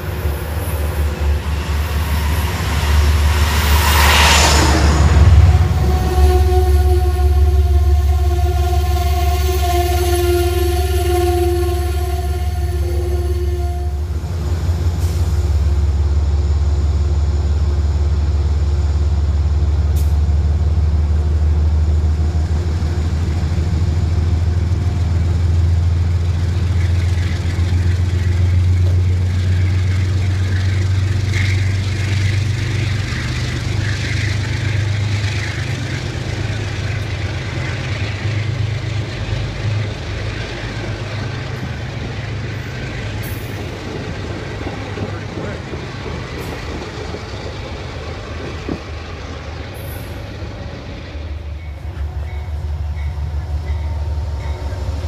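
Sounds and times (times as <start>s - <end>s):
locomotive engine drone: 0.0s - 55.0s
train wheels rattling on rails: 0.0s - 55.0s.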